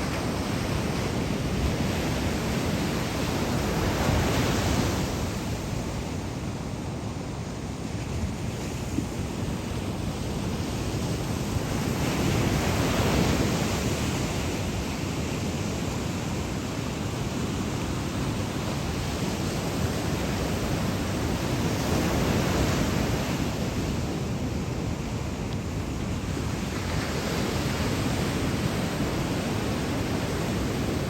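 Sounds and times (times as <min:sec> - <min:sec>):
ocean surf breaking: 0:00.0 - 0:31.0
wind rumbling on microphone: 0:00.0 - 0:31.0.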